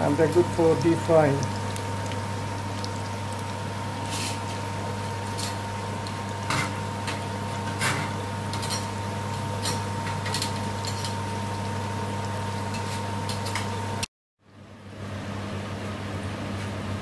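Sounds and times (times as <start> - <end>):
constant low hum: 0.0 - 13.7
chips deep-frying in oil: 0.0 - 14.0.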